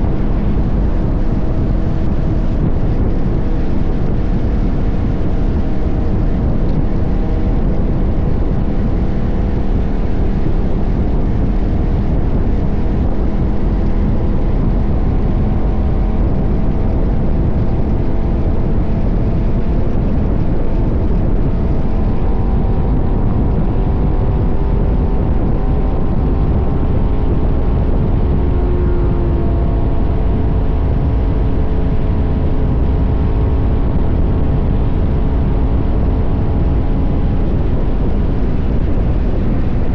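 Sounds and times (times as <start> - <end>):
heavy low rumble: 0.0 - 39.9
motorcycle engine running: 0.0 - 39.9.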